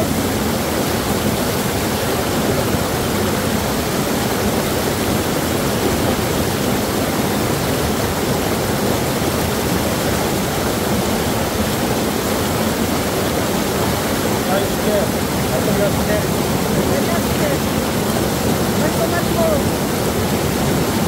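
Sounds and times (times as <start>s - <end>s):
water pouring over rocks: 0.0s - 21.0s.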